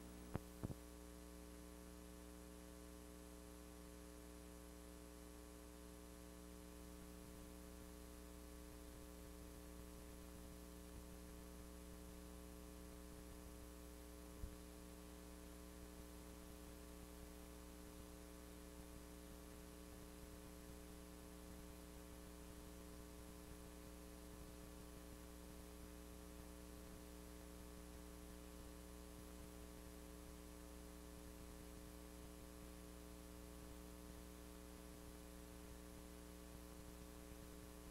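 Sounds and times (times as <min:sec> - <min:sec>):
electrical mains hum: 0:00.0 - 0:37.9.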